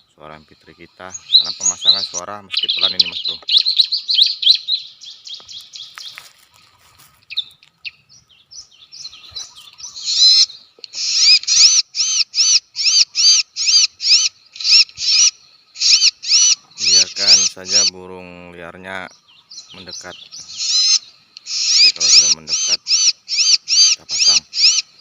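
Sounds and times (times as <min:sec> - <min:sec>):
bird high chatter and calls: 0:00.0 - 0:25.0.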